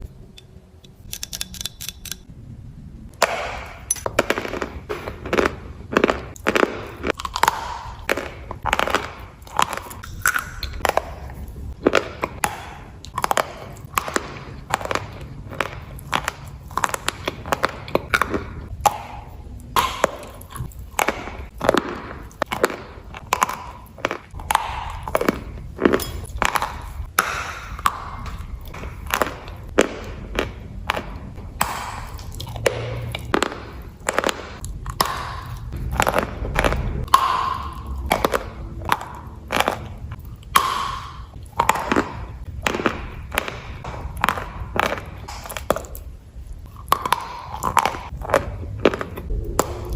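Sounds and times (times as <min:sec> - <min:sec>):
low steady hum: 0:00.0 - 0:49.9
chalk crunching being chewed: 0:04.0 - 0:49.9.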